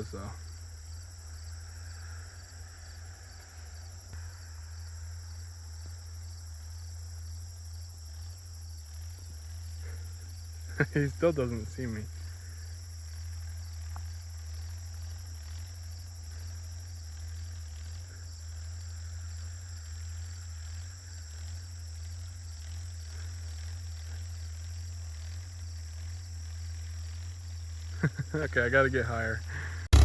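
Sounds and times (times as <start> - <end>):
crickets and insects chorus: 0.0 - 30.0
low hum: 0.0 - 30.0.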